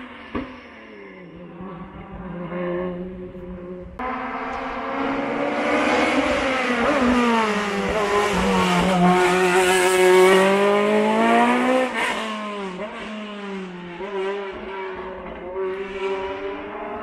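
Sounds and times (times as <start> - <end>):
racing car engine accelerating: 1.3 - 17.0.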